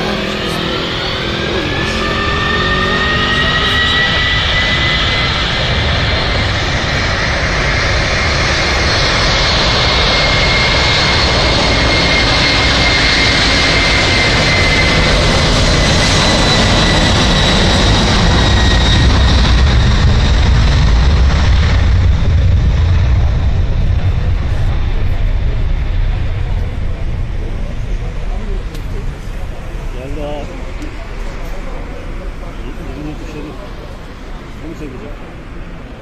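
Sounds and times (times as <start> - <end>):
jet engines at takeoff: 0.0 - 36.0.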